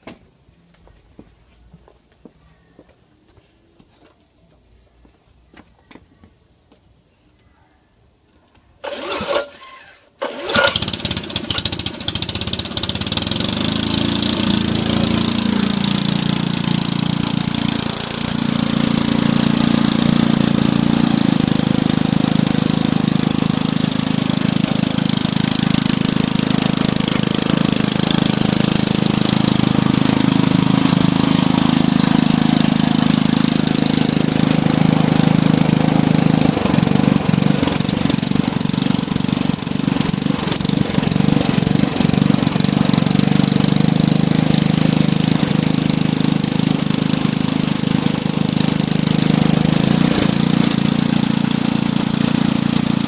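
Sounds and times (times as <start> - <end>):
lawn mower engine running: 8.8 - 53.0.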